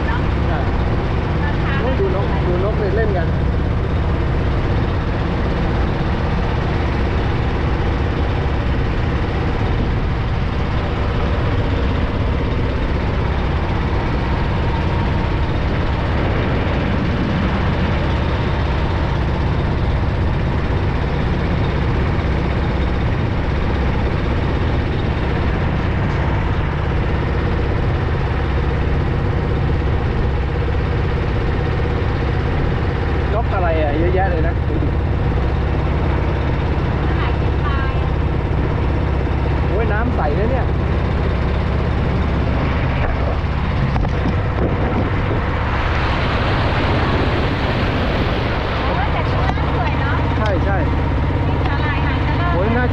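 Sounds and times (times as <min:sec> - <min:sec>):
motorboat engine drone: 0:00.0 - 0:52.9.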